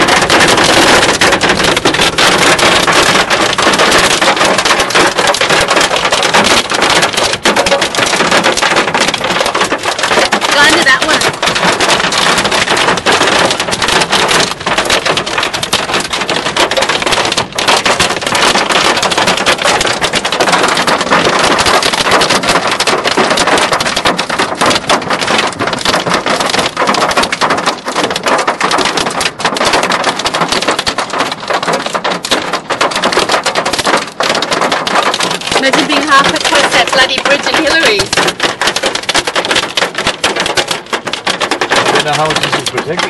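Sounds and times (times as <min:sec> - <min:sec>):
hail pelting a car: 0:00.0 - 0:43.0.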